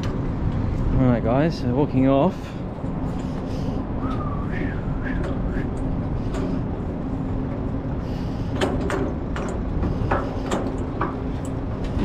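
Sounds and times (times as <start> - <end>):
footsteps on metal gangway: 0.0 - 12.0
low steady hum: 0.0 - 12.0.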